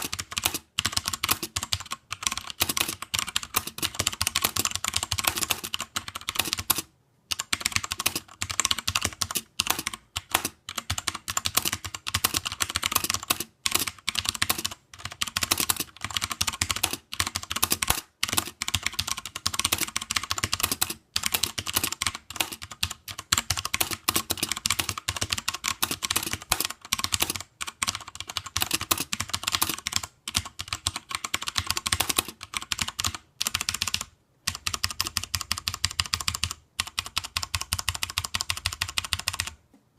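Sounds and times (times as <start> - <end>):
typing on mechanical keyboard: 0.0 - 39.6.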